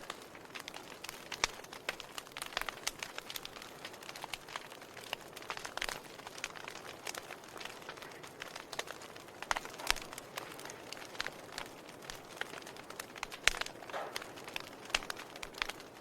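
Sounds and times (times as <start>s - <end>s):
firewood crackling and popping: 0.0s - 16.0s
soft hiss of flames: 0.0s - 16.0s.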